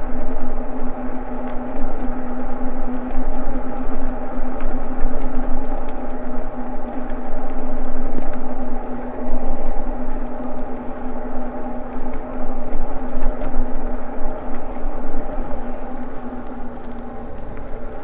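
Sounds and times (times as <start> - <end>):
electric bike motor and tyres drone: 0.0 - 18.0.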